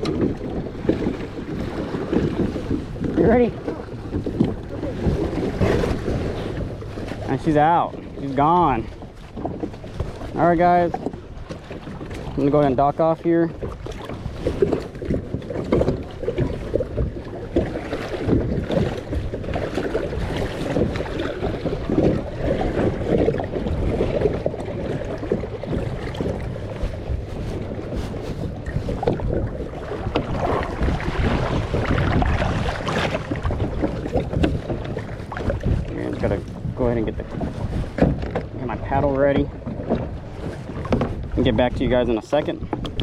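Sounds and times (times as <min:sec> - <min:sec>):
water sloshing and splashing: 0:00.0 - 0:43.0
wind buffeting microphone: 0:00.0 - 0:43.0.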